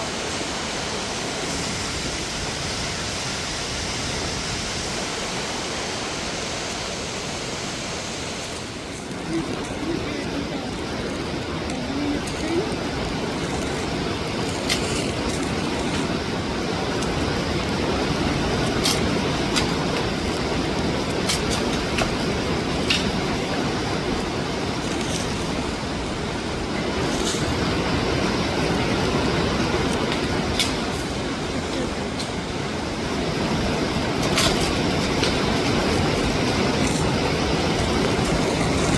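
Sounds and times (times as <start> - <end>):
waterfall roar: 0.0 - 38.9.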